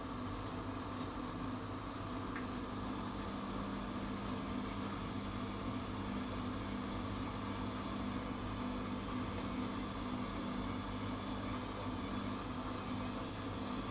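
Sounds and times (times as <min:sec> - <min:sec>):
washing machine humming: 0:00.0 - 0:13.9.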